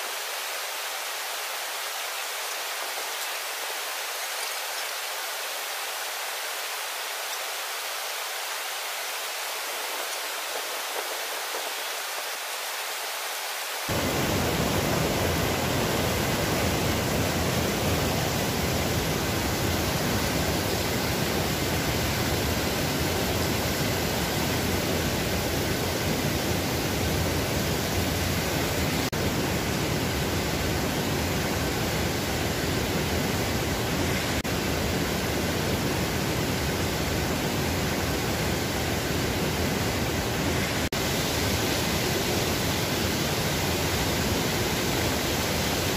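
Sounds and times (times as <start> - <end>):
mountain stream rushing: 0.0 - 45.9.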